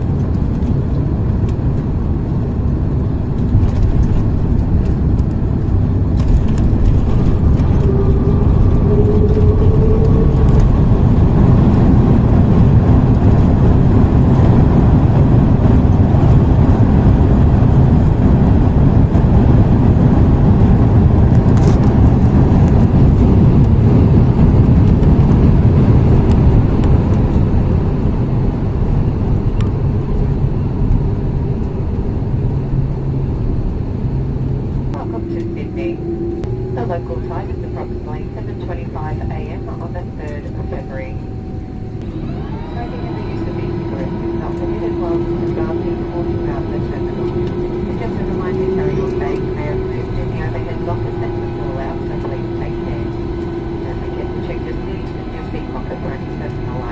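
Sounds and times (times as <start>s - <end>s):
airplane cabin rumble on landing: 0.0s - 56.9s
faint rising whine: 3.0s - 56.9s.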